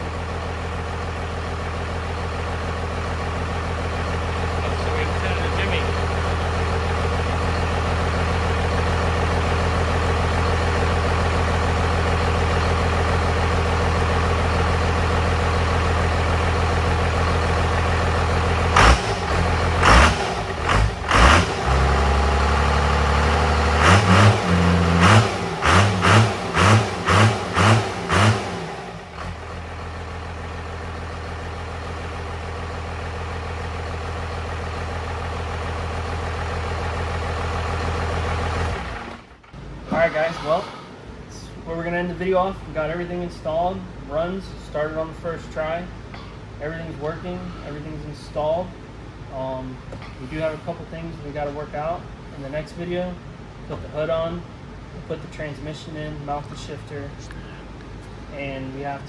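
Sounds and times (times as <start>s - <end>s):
diesel engine idling and revving: 0.0s - 59.0s.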